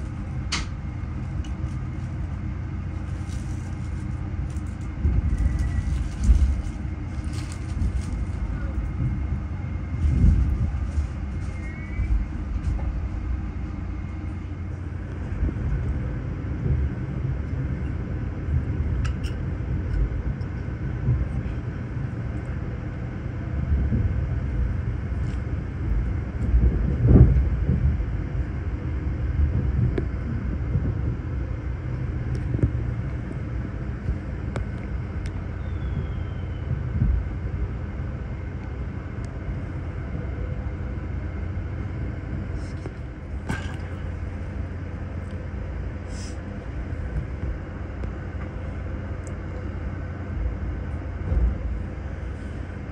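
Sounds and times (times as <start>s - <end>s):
train carriage rumble: 0.0s - 52.9s.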